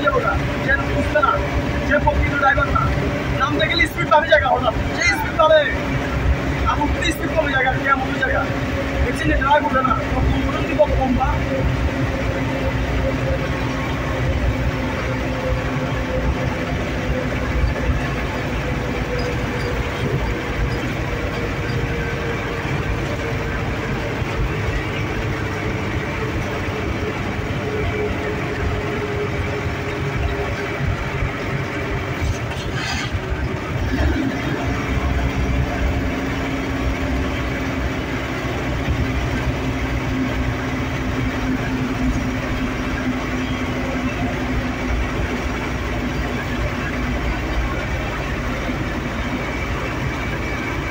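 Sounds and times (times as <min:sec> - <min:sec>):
engine and tyres rumbling: 0:00.0 - 0:50.9.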